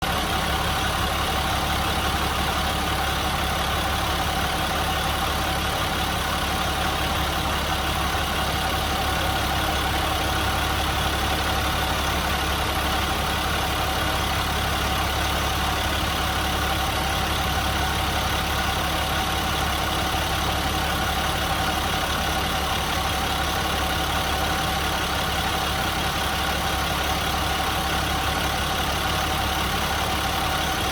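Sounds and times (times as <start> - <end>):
bus diesel engine idling: 0.0 - 30.9.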